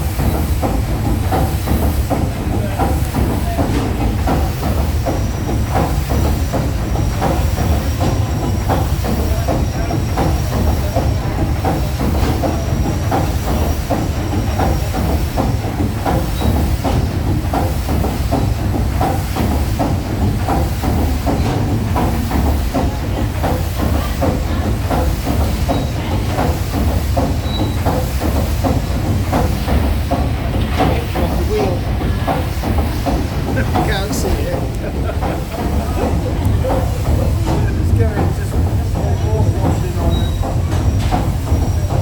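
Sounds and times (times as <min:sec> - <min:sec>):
steam engine rumbling: 0:00.0 - 0:42.0
steam hissing: 0:00.0 - 0:42.0.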